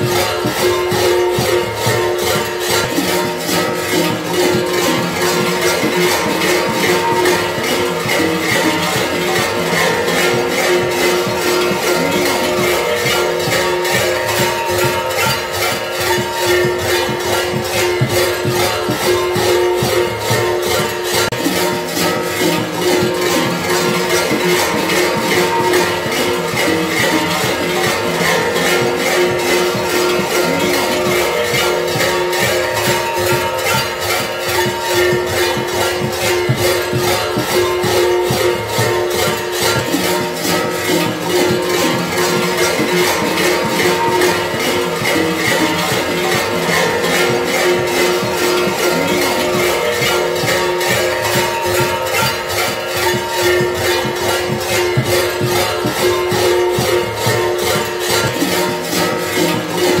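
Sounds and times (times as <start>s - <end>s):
large bells clanging: 0.0s - 60.0s.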